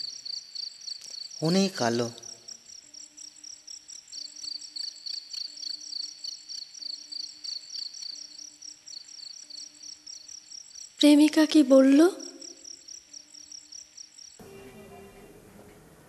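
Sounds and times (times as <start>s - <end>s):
crickets chirping: 0.0s - 14.7s.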